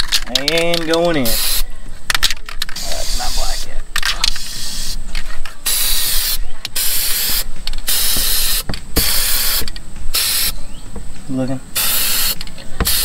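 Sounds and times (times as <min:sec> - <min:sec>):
spray-paint cans hissing: 0:00.4 - 0:10.6, 0:11.7 - 0:13.0.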